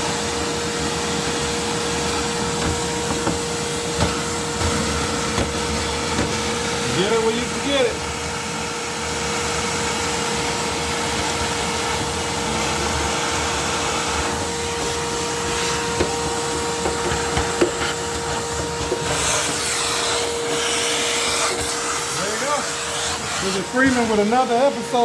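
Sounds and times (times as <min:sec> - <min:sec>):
shop vacuum running: 0:00.0 - 0:25.0.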